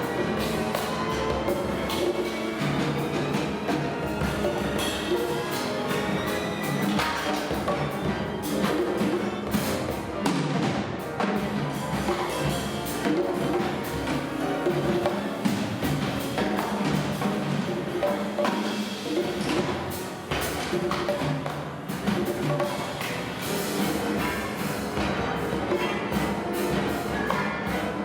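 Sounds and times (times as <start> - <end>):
improvised ensemble music: 0.0 - 28.0
sharp percussion strikes: 0.0 - 28.0.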